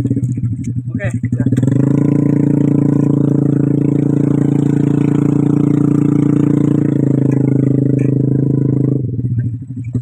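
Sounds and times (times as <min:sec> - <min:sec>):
small motorcycle engine droning: 0:00.0 - 0:10.0.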